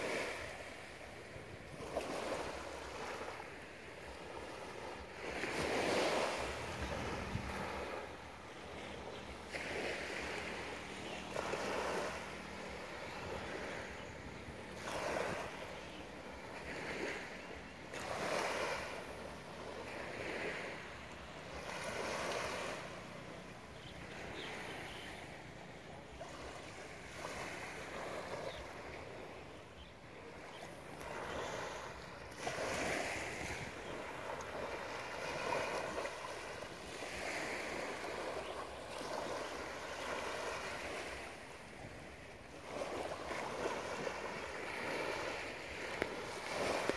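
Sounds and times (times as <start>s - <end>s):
small waves lapping on beach: 0.0s - 46.9s.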